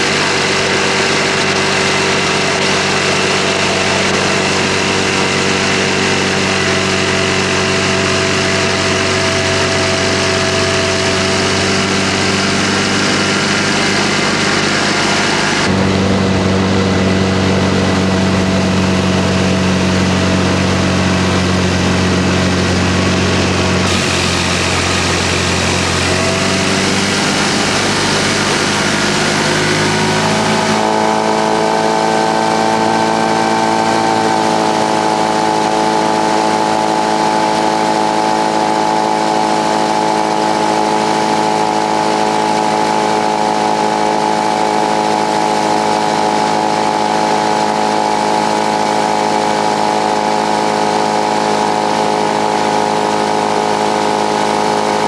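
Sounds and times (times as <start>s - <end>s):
motorboat engine running: 0.0s - 55.0s.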